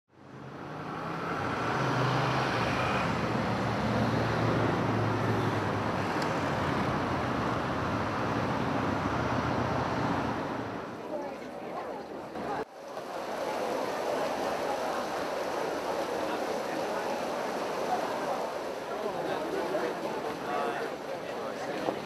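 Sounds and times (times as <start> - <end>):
road traffic with engine hum: 0.1 - 22.0.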